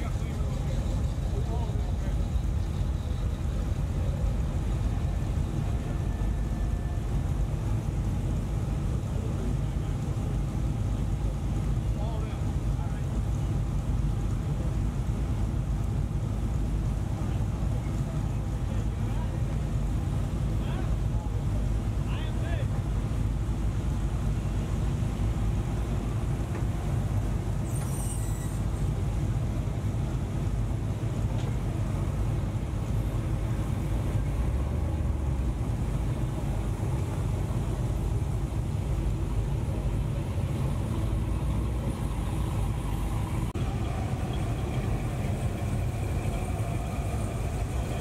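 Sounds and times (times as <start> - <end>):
pickup trucks rolling past: 0.0 - 48.0.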